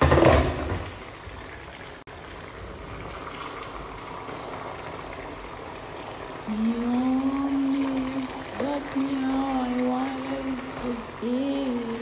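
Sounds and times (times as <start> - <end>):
pot simmering and bubbling: 0.0 - 12.0.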